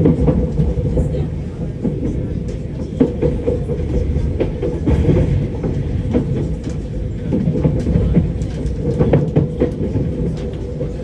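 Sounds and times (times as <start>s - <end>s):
train rumbling: 0.0s - 11.0s
train wheels clacking: 0.0s - 11.0s.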